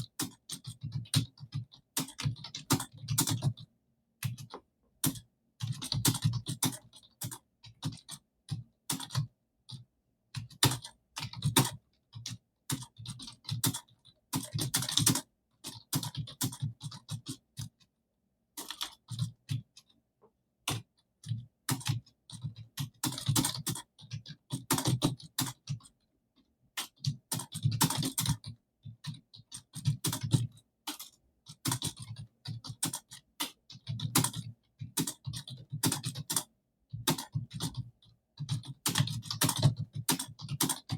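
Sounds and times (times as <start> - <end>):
computer keyboard typing: 0.0 - 17.9, 18.6 - 20.0, 20.7 - 26.0, 26.8 - 40.9.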